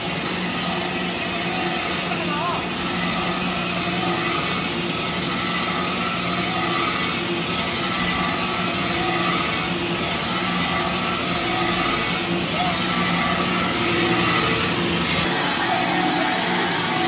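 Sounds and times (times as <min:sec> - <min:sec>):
belt grinding machine: 0:00.0 - 0:17.0.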